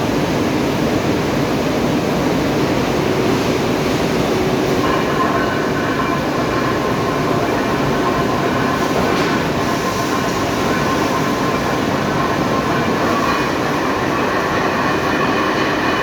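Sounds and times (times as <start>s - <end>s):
lathe machining rumble: 0.0s - 16.0s.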